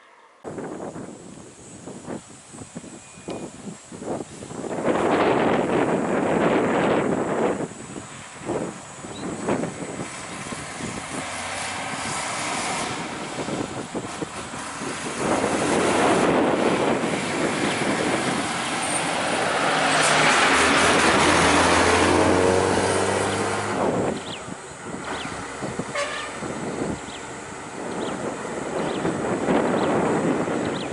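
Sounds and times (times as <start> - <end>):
bus diesel engine passing: 4.8 - 30.9.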